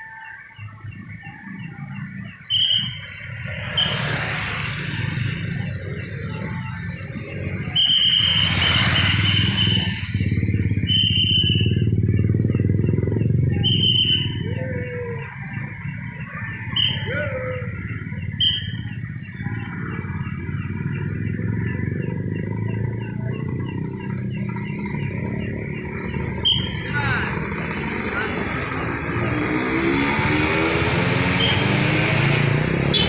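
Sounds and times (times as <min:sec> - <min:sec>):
passing vehicles: 0:00.0 - 0:33.0
whistle blasts: 0:02.2 - 0:33.0.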